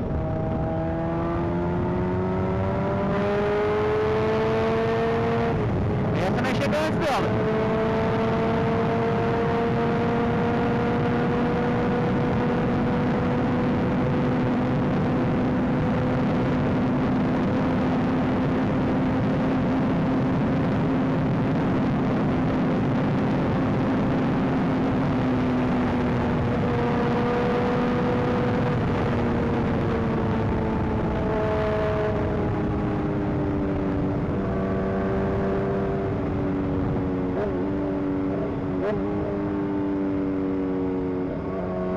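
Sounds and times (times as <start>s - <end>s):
motorcycle engine cruising: 0.0s - 41.9s
wind noise: 0.0s - 41.9s.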